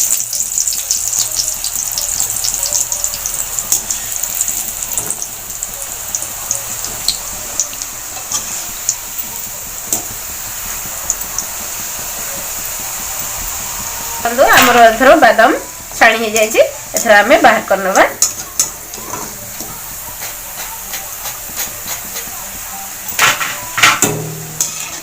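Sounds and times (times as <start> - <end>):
deep-frying sizzle with pops: 0.0 - 25.0.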